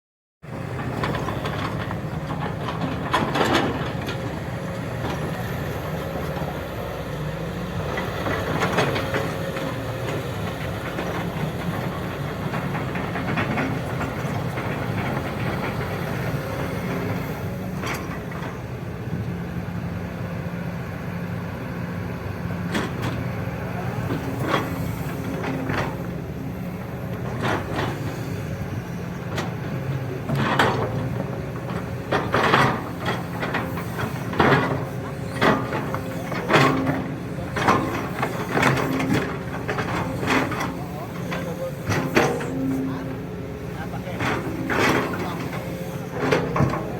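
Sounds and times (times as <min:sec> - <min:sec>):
excavator diesel engine running: 0:00.5 - 0:46.9.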